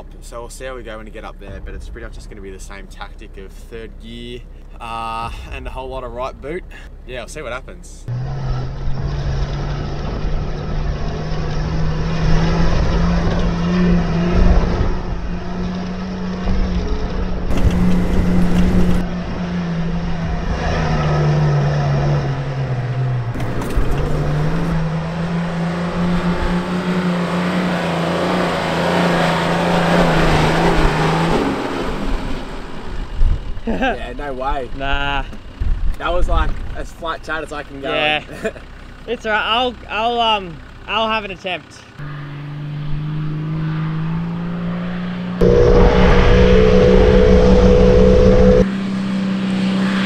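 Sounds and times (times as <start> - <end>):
engine labouring at full throttle: 8.0 - 50.0.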